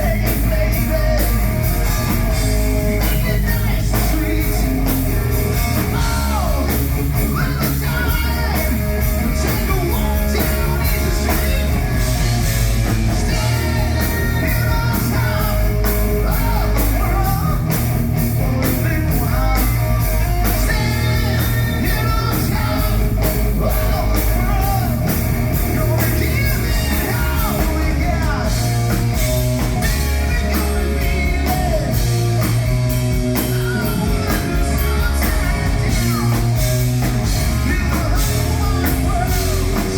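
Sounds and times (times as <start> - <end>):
person singing: 0.0 - 12.1, 13.3 - 28.9, 29.8 - 32.4, 33.3 - 39.9
drums keeping steady beat: 0.0 - 39.9
electric guitar: 0.0 - 39.9.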